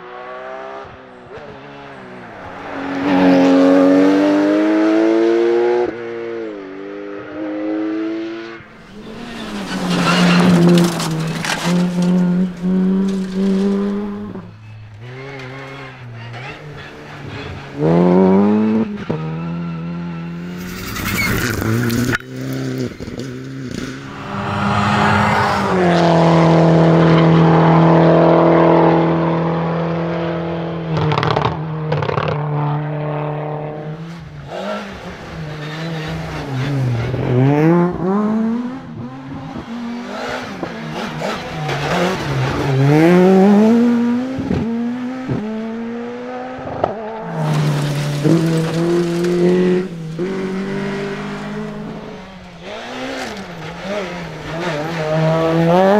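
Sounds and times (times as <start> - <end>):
rally car engine revving: 0.0 - 55.9.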